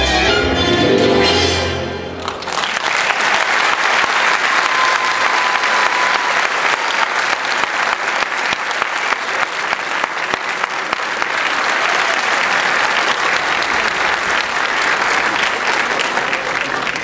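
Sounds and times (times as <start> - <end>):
audience applauding: 2.2 - 17.0.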